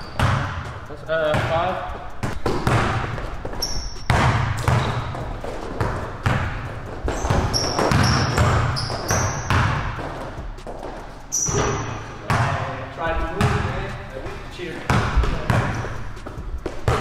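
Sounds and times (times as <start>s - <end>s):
sneaker squeaks: 0.0s - 12.6s, 13.4s - 17.0s
basketball dribbling: 0.0s - 17.0s.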